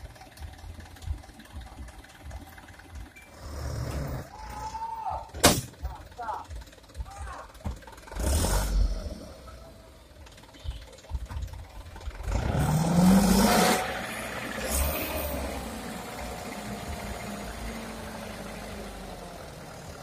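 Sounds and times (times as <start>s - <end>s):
diesel truck engine revving: 0.0s - 4.8s, 5.6s - 20.0s.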